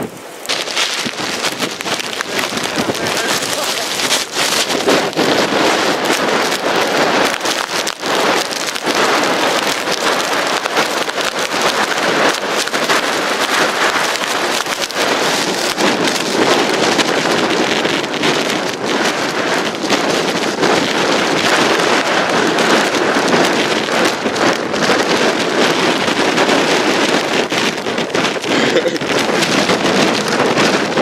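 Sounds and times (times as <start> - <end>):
snow pattering on microphone: 0.0 - 31.0
wind buffeting microphone: 0.0 - 31.0.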